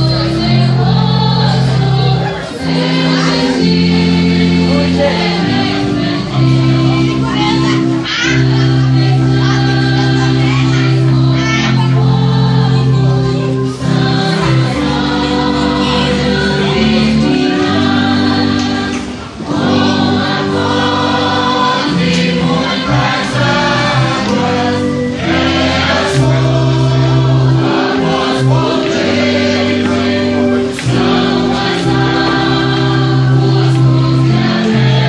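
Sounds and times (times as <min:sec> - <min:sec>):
congregation singing a hymn: 0:00.0 - 0:35.0
wind band chords: 0:00.0 - 0:35.0.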